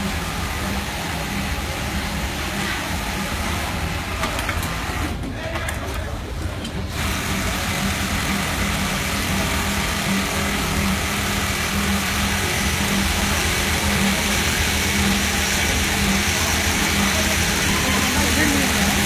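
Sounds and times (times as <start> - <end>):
hum of factory machinery: 0.0 - 19.0.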